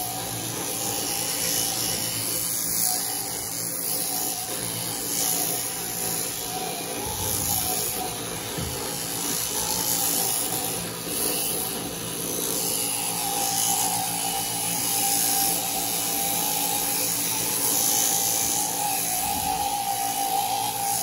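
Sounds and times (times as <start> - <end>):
electric shearing handpiece running: 0.0 - 21.0.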